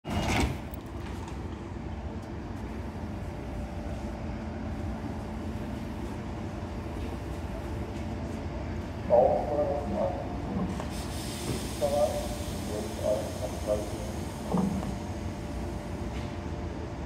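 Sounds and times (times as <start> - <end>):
train equipment humming: 0.1 - 17.0.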